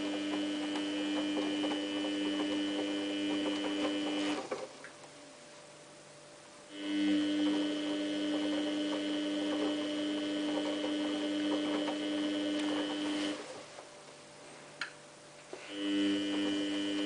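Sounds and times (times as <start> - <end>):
washing machine electrical hum: 0.0 - 17.0.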